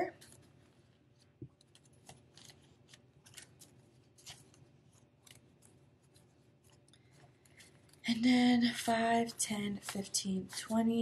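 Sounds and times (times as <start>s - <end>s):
paper banknotes rustling: 0.0s - 8.1s, 8.9s - 11.0s.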